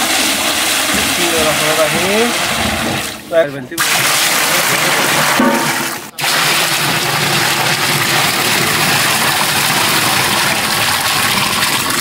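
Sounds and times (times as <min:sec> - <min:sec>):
water pouring into a pot: 0:00.0 - 0:12.0.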